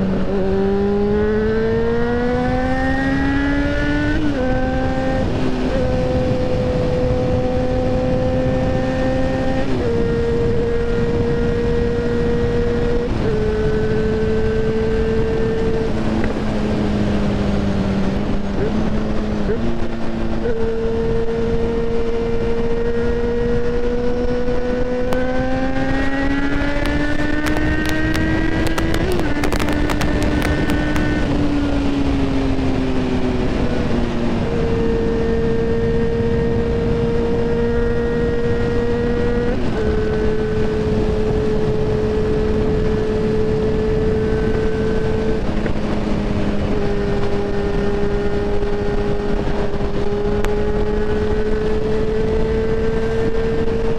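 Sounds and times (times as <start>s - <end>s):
motorcycle engine: 0.0s - 53.9s
road noise: 0.0s - 53.9s
wind noise: 0.0s - 53.9s.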